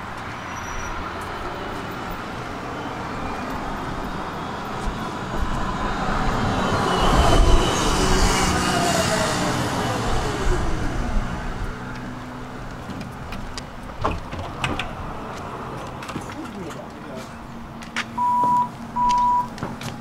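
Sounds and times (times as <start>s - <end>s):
tram wheels on rails: 0.0s - 20.0s.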